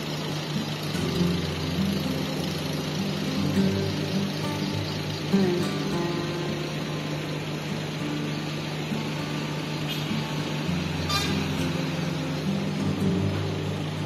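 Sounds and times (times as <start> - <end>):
bus diesel engine pulling away: 0.0 - 14.0
steady low hum: 0.0 - 14.0.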